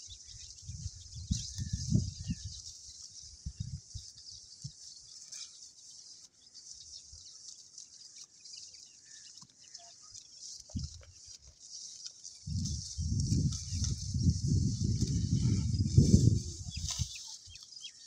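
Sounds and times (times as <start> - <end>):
faint bird chirps: 0.0 - 12.8, 15.6 - 18.0.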